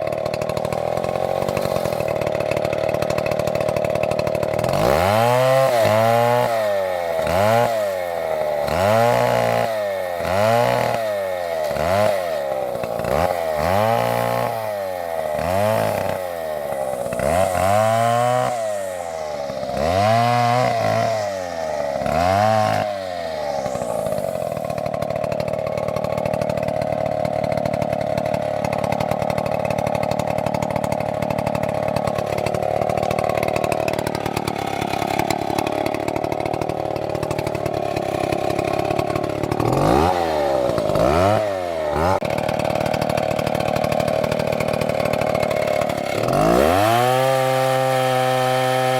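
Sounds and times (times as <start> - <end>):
chainsaw engine revving: 0.0 - 48.9.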